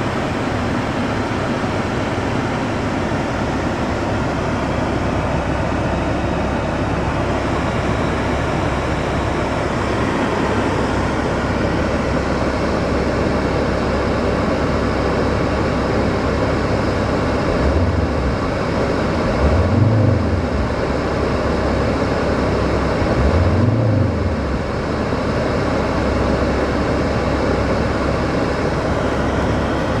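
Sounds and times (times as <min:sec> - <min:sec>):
car engine mechanical noise: 0:03.0 - 0:30.0.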